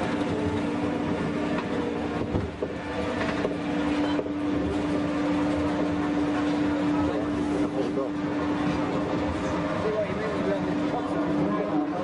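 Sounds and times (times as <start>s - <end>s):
constant hum: 0.0s - 12.0s
roller coaster rattling on track: 0.0s - 12.0s.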